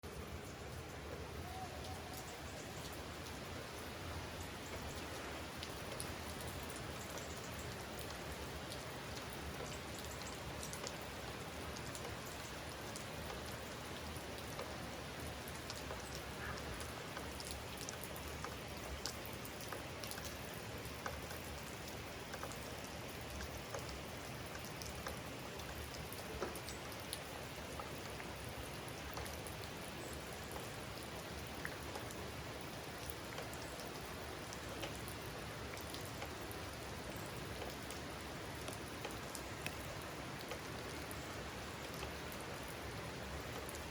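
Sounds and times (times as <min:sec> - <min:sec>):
raindrops ticking close by: 0:00.0 - 0:43.9
steady rain falling: 0:00.0 - 0:43.9.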